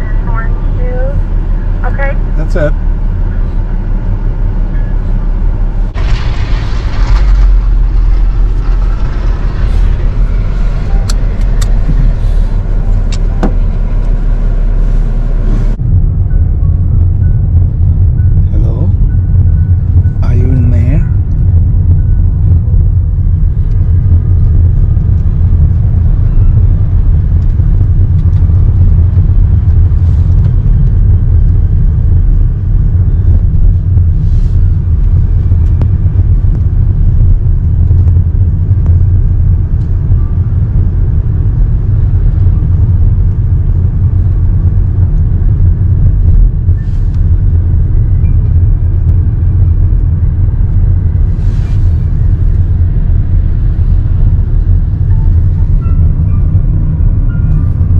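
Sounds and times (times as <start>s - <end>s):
car engine rumble inside cabin: 0.0s - 57.9s.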